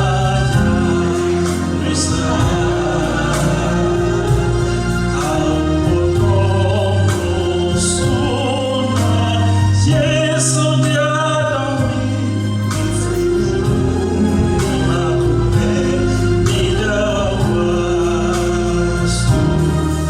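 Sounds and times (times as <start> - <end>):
choir singing a gospel hymn: 0.0 - 20.0
instrumental accompaniment: 0.0 - 20.0.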